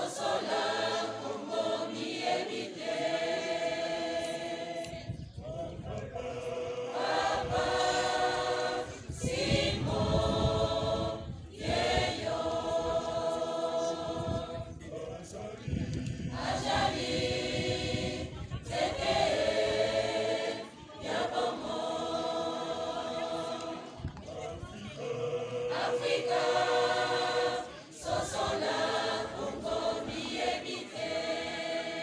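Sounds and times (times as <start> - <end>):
choir singing held chords: 0.0 - 32.0.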